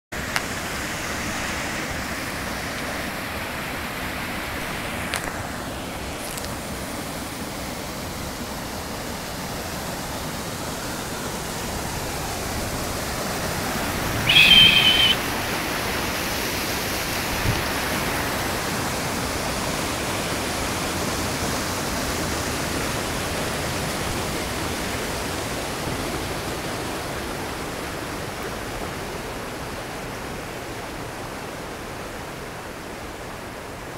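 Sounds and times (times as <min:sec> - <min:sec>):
river water rushing: 0:00.2 - 0:33.9.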